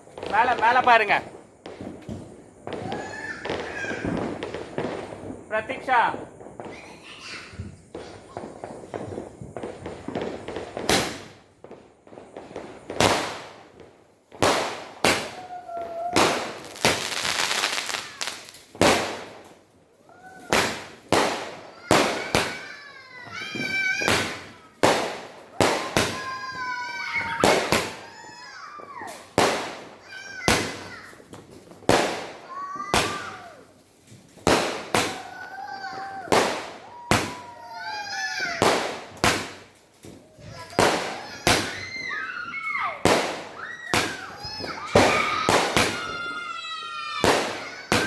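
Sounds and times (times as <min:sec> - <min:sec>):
firework bangs: 0:00.0 - 0:48.0
firework whistling: 0:00.0 - 0:48.0.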